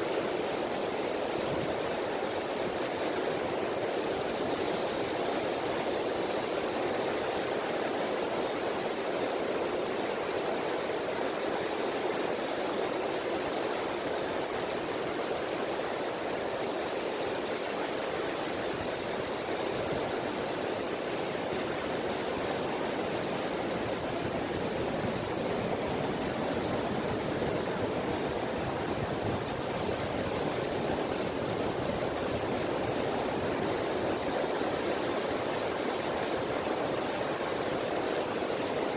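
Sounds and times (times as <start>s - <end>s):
calm sea washing on beach: 0.0s - 38.9s.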